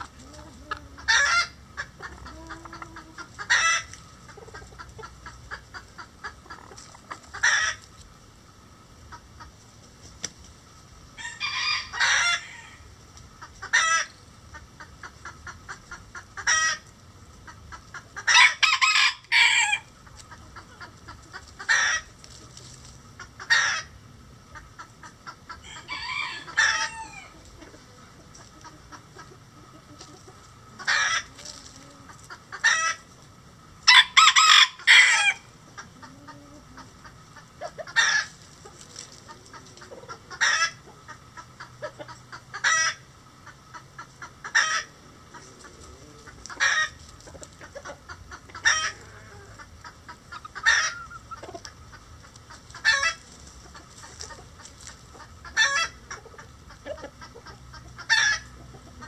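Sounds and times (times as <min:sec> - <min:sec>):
chickens clucking and calling: 0:00.0 - 0:59.0.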